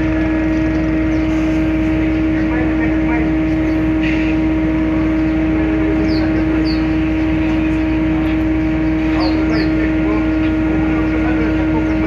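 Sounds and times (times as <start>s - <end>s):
ship engines humming: 0.0s - 12.0s.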